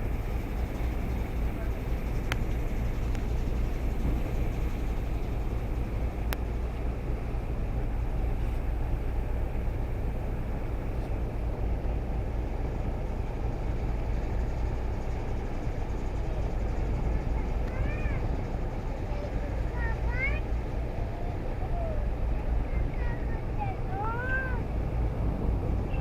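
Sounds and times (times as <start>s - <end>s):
ship rumbling at sea: 0.0s - 26.0s.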